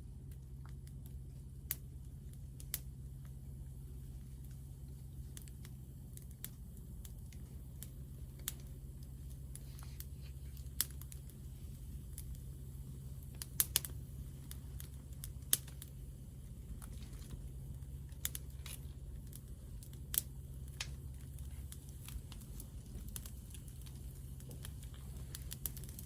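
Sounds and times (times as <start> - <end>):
steady low hum: 0.0 - 26.0
wood fire crackling: 0.0 - 26.0.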